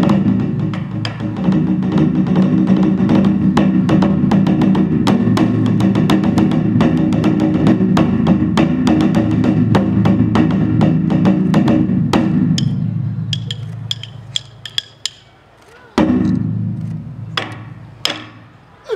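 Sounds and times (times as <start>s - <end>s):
rapid sharp drum strokes: 0.0s - 15.3s.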